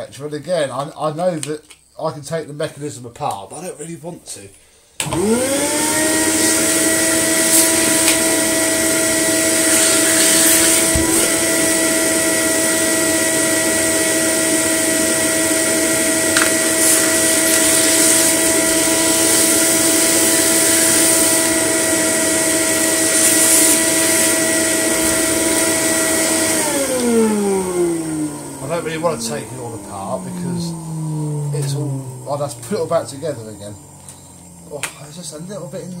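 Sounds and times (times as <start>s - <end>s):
vacuum cleaner running: 5.0s - 36.0s.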